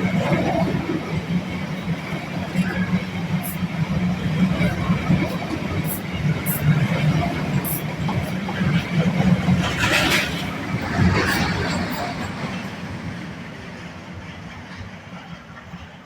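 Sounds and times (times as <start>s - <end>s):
freight train rumbling past: 0.0s - 16.0s
wagons rattling on track: 0.0s - 16.0s.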